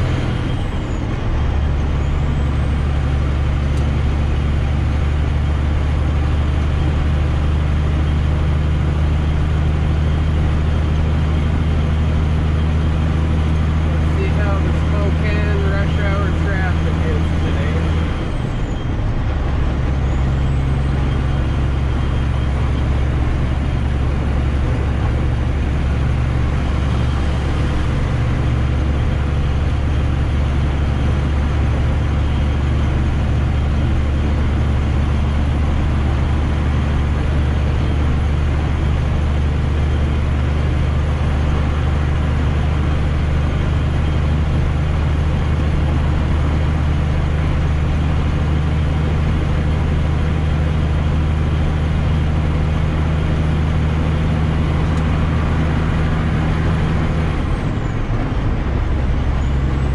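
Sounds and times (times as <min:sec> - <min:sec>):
diesel truck engine droning: 0:00.0 - 0:59.9
road noise: 0:00.0 - 0:59.9.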